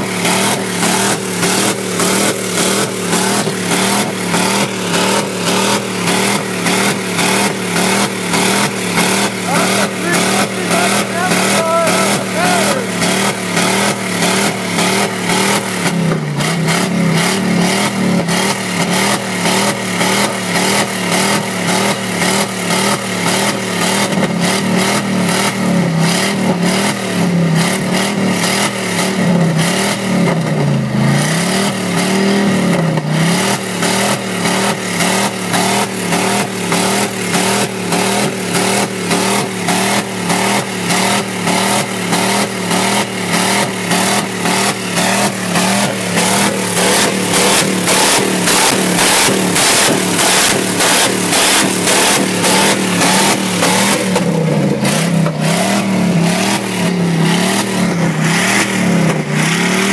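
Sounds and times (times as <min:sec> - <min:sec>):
engine bouncing off rev limiter: 0:00.0 - 0:59.9.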